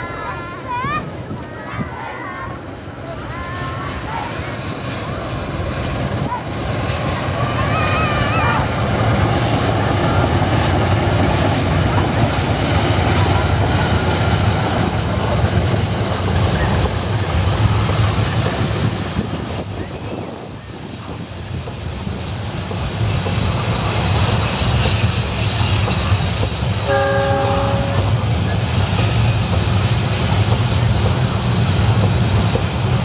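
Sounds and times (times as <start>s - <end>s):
freight train passing: 0.0s - 33.0s.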